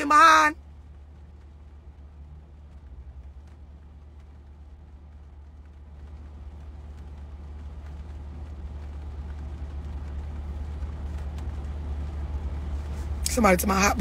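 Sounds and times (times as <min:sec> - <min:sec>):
car interior engine rumble: 0:00.0 - 0:14.0
road noise: 0:00.0 - 0:14.0.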